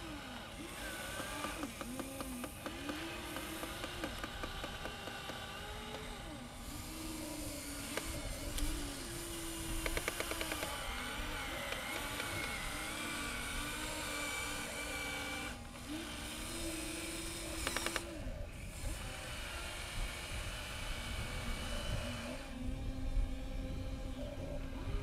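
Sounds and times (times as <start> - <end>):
toy excavator motors whining: 0.0 - 25.0.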